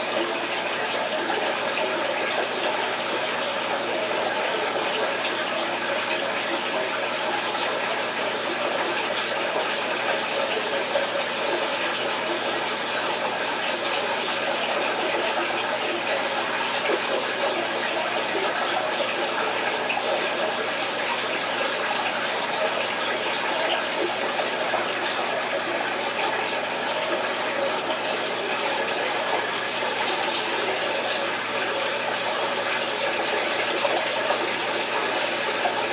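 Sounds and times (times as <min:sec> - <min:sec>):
aquarium water trickling: 0:00.0 - 0:35.9.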